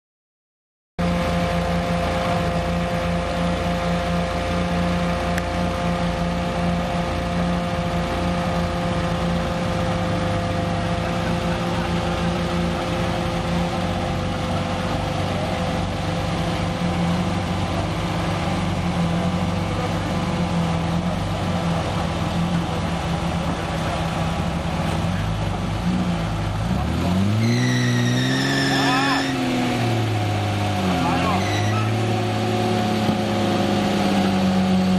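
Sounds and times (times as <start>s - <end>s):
truck engine running: 1.0s - 34.9s.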